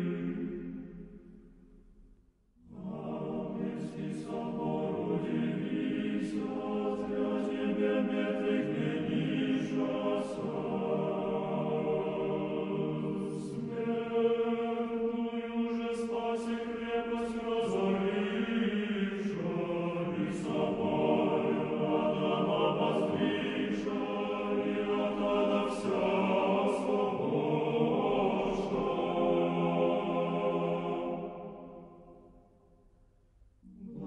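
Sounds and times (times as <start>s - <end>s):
choir chanting held chords: 0.0s - 1.2s, 2.6s - 32.6s, 33.7s - 34.0s.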